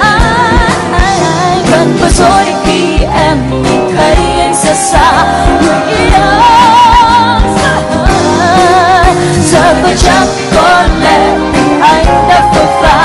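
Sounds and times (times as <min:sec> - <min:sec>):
live band with drums: 0:00.0 - 0:13.0
woman singing a pop ballad: 0:00.0 - 0:13.0.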